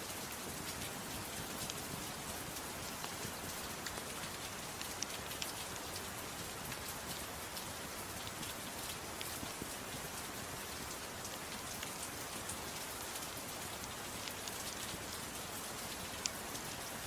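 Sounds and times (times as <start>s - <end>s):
soft rain falling: 0.0s - 17.0s.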